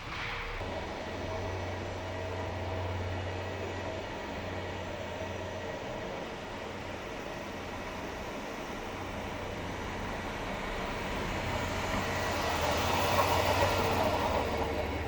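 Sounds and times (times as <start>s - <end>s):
ice resurfacer running: 0.0s - 15.0s.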